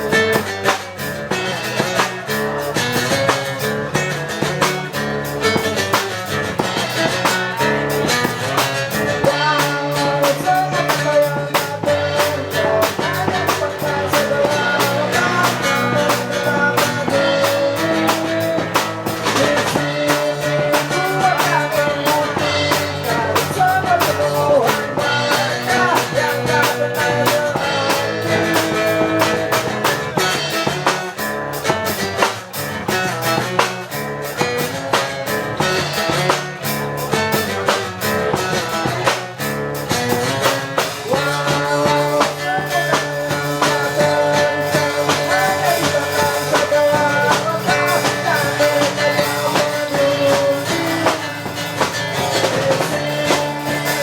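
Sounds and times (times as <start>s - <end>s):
acoustic pop-punk band music: 0.0s - 54.0s.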